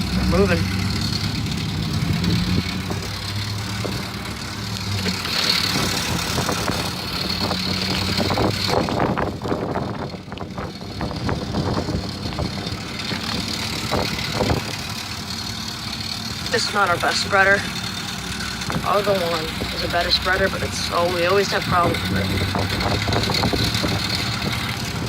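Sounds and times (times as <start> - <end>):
knocks and rattles: 0.0 - 16.6, 17.8 - 20.6, 21.7 - 25.0
road noise: 0.0 - 25.0
truck engine hum: 0.0 - 25.0.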